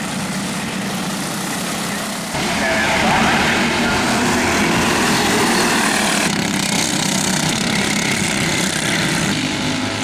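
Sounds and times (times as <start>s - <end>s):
go-kart engines buzzing: 0.0s - 10.0s.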